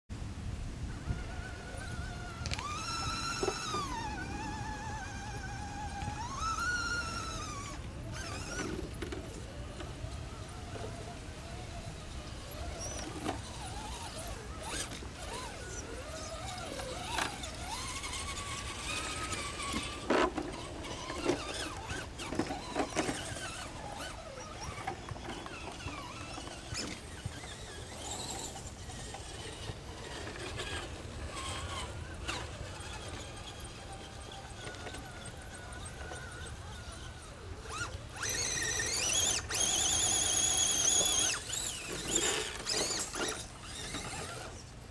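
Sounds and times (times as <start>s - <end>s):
rc truck electric motors whining: 0.8s - 44.9s.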